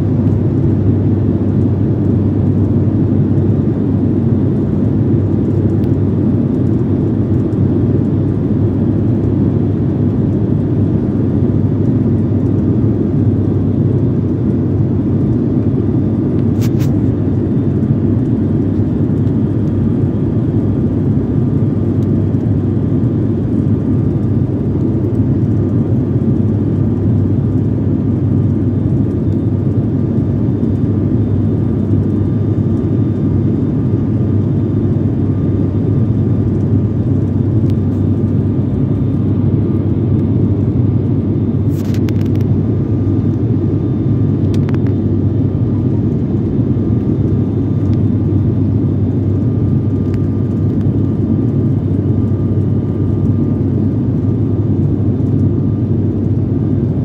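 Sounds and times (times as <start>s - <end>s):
airliner cabin engine rumble: 0.0s - 57.0s
faint steady whine: 0.0s - 57.0s.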